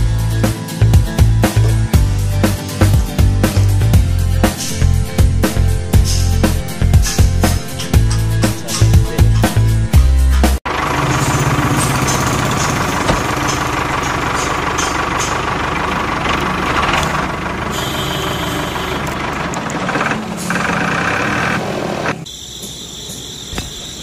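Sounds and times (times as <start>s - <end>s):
tractor engine running: 0.9s - 24.0s.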